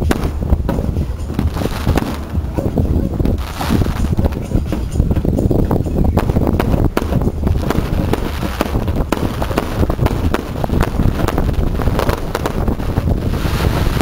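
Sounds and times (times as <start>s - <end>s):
fireworks cracking and banging: 0.0s - 14.0s
wind buffeting microphone: 0.0s - 14.0s.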